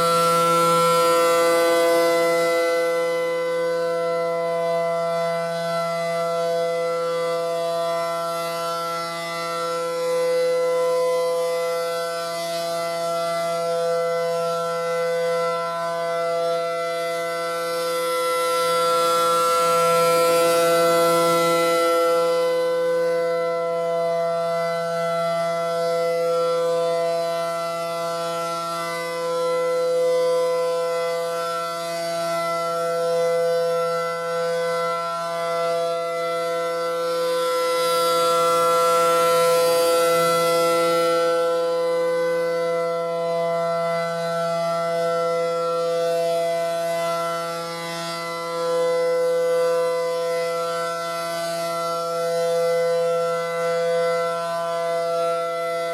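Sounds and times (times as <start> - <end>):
tornado siren steady tone: 0.0 - 55.9.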